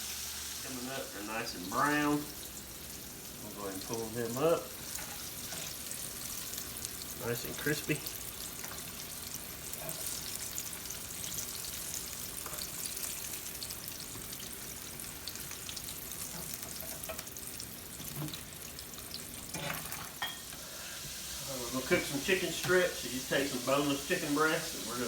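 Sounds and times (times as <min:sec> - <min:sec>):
food frying in hot oil: 0:00.0 - 0:25.0.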